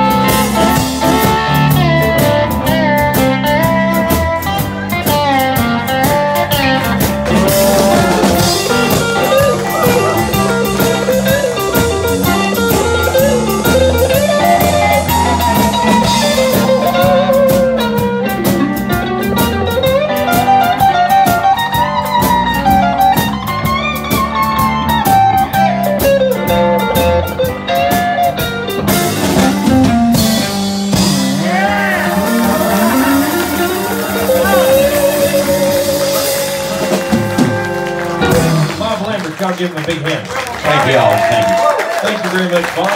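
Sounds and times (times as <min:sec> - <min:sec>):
pedal steel guitar: 0:00.0 - 0:39.1
live band playing: 0:00.0 - 0:42.9.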